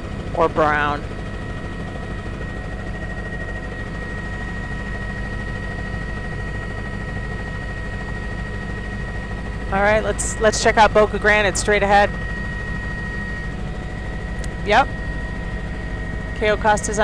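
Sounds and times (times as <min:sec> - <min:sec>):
helicopter engine and rotor drone: 0:00.0 - 0:17.0
thin steady whine: 0:00.0 - 0:17.0.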